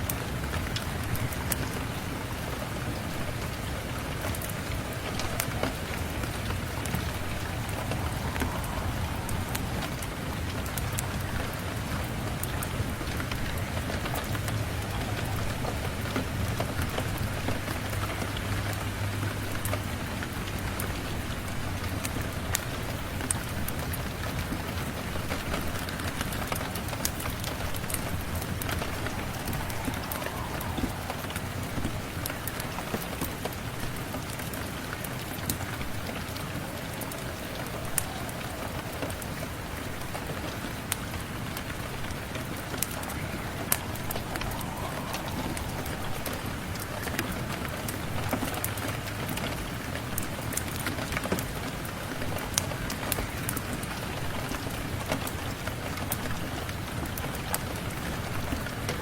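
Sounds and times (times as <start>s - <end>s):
sharp raindrop ticks: 0.0s - 59.0s
steady rain falling: 0.0s - 59.0s.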